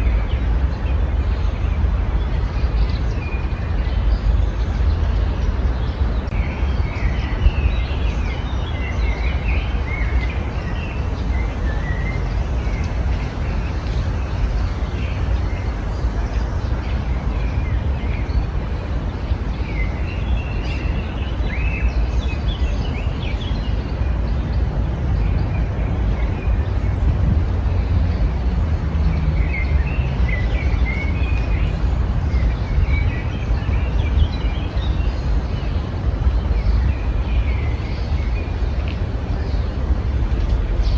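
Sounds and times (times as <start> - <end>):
small songbirds chirping: 0.0 - 40.9
steady low rumble: 0.0 - 40.9.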